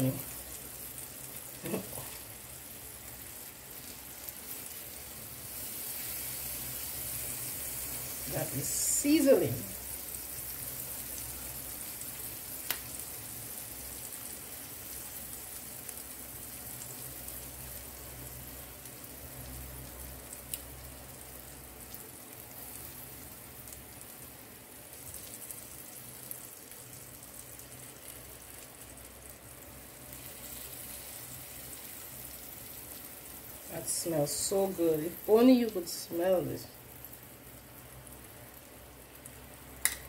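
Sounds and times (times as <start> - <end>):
sauce sizzling: 0.0 - 40.0.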